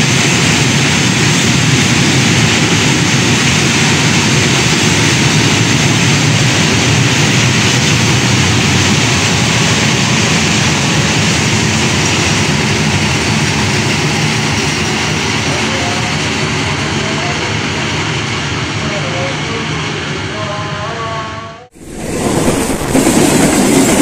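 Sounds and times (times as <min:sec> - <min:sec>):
train wheels running on track: 0:00.0 - 0:24.0.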